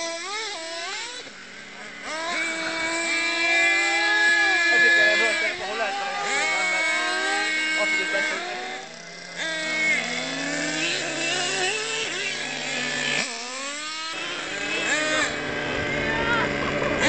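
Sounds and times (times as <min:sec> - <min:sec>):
model car motors whining: 0:00.0 - 0:17.0.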